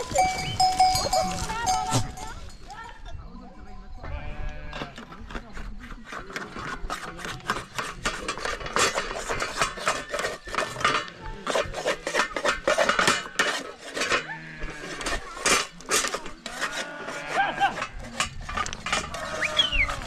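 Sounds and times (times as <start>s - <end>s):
dishes and metal utensils clinking: 0.0s - 2.8s, 6.1s - 20.0s.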